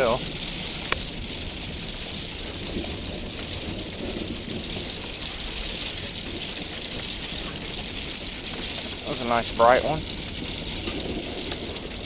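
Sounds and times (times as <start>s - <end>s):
heavy rain on metal roof: 0.0s - 12.0s.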